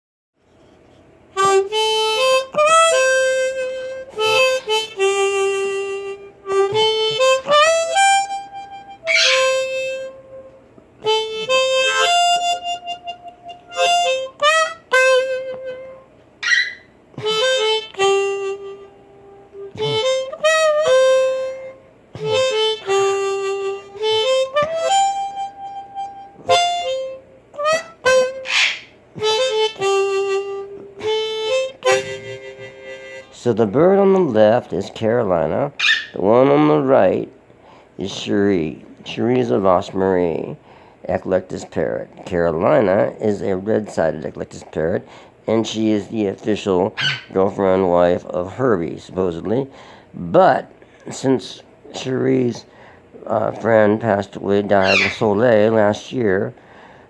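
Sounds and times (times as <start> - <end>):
blues harmonica: 0.5 - 57.0.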